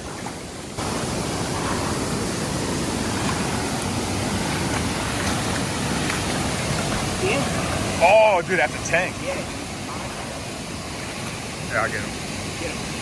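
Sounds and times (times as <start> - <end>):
creek waterfall rushing: 0.0 - 13.0.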